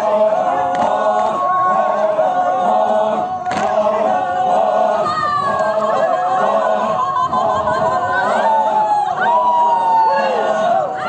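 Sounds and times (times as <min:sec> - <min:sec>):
group singing a chant: 0:00.0 - 0:11.0.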